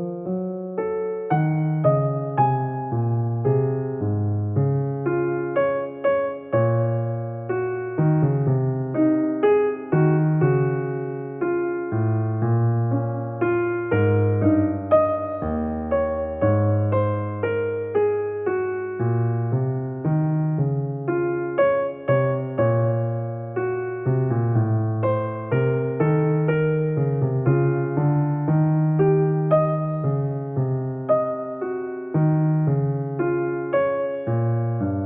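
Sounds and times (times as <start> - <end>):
soft keyboard music: 0.0 - 35.0.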